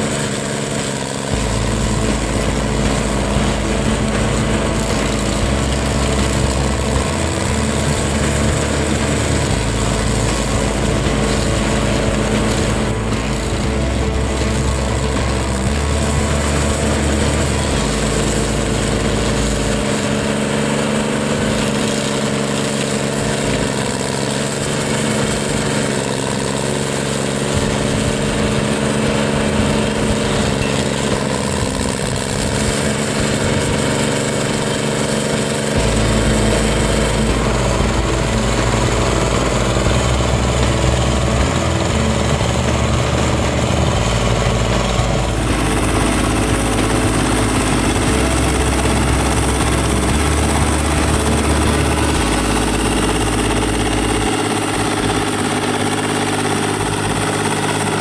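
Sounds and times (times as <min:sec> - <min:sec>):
cutter wheel grinding stump: 0:00.0 - 0:58.0
stump grinder engine under load: 0:00.0 - 0:58.0.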